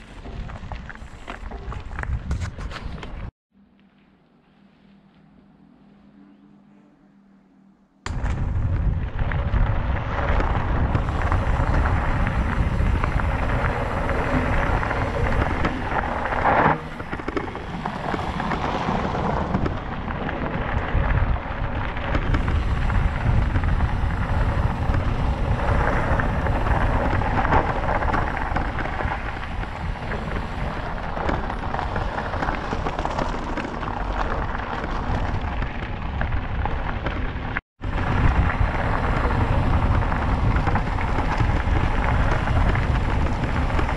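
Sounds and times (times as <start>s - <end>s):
wind buffeting microphone: 0.0s - 3.3s, 8.1s - 43.9s
mountain bike trail noise: 0.0s - 4.1s, 8.1s - 43.9s.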